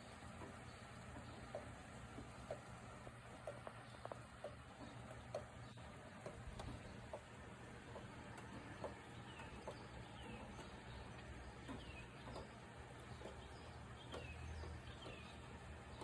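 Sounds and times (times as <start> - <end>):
light rain on grass: 0.0 - 16.0
bird chirping: 2.4 - 16.0.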